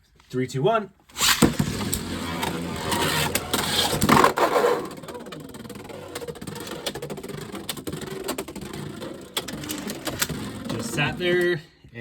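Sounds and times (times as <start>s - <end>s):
spinning tops whirring: 1.2s - 11.6s
tops clacking: 1.2s - 11.6s.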